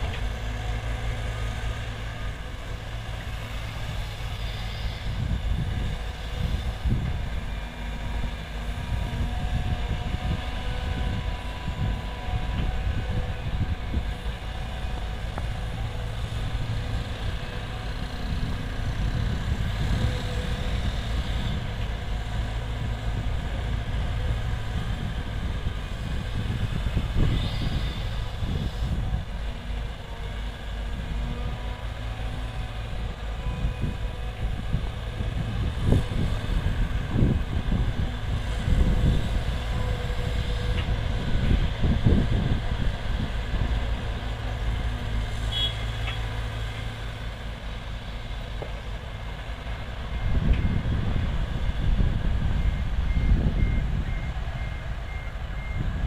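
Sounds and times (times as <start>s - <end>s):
excavator diesel engine rumble: 0.0s - 56.0s.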